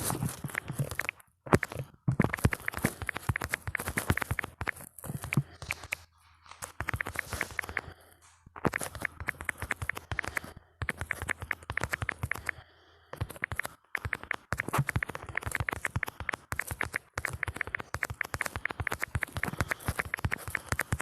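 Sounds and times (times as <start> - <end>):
phone keyboard clicks: 0.3 - 6.0, 6.6 - 8.0, 8.6 - 21.0.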